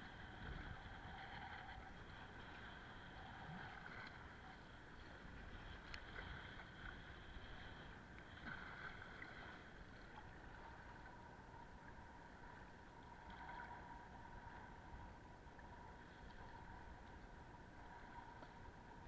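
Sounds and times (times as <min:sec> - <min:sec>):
water around kayak: 0:00.0 - 0:19.0.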